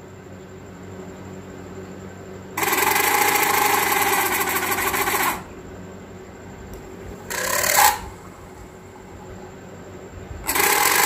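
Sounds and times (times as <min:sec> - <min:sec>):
fan motor rattling buzz: 0:00.0 - 0:11.0.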